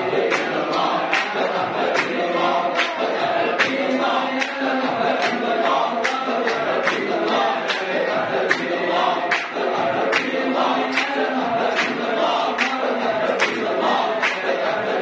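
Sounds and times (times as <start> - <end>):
men chanting in unison: 0.0 - 15.0
rhythmic hand claps: 0.0 - 15.0.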